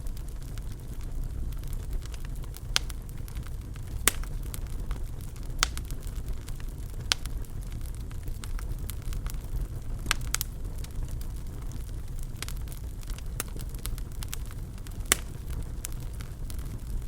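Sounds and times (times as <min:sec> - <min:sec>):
fire crackling in fireplace: 0:00.0 - 0:17.0
fire popping: 0:00.0 - 0:17.0.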